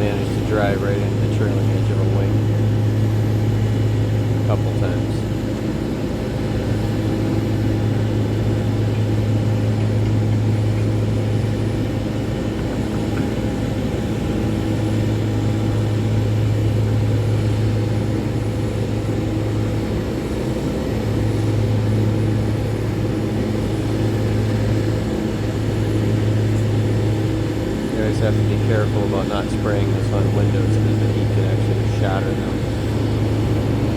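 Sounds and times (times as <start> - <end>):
low engine drone: 0.0 - 33.9.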